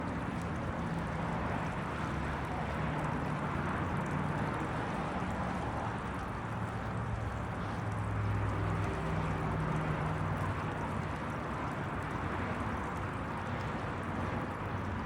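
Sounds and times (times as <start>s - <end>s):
water feature falling water: 0.0s - 15.0s.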